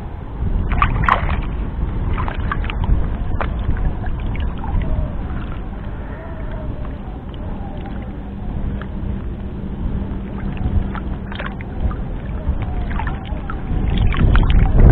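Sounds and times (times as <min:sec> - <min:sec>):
low rumble: 0:00.0 - 0:14.9
water sloshing and lapping: 0:00.0 - 0:14.9
water drips and splashes: 0:00.4 - 0:14.9.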